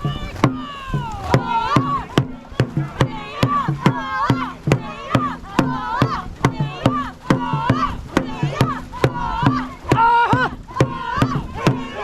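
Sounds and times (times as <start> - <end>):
drum beaten at steady pace: 0.0 - 12.0
voices shouting in time: 0.0 - 12.0.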